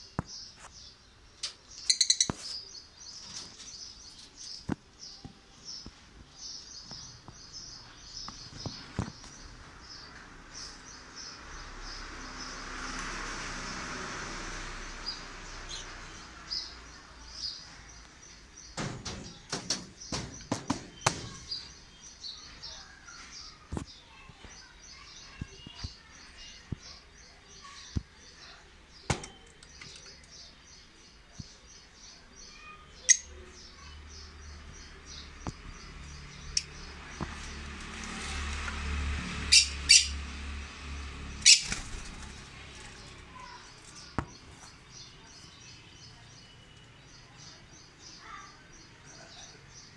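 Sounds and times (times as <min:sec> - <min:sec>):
parrots chirping and twittering: 0:00.2 - 0:13.1, 0:14.1 - 0:45.8.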